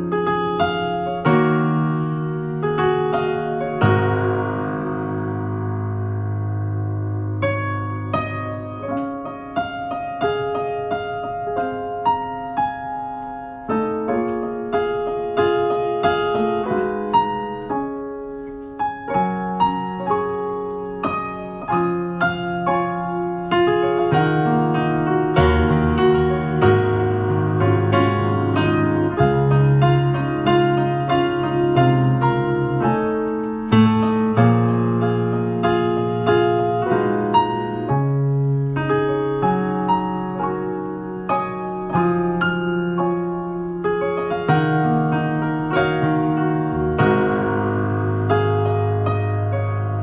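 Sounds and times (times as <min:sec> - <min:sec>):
slow solo piano melody: 0:00.0 - 0:50.0.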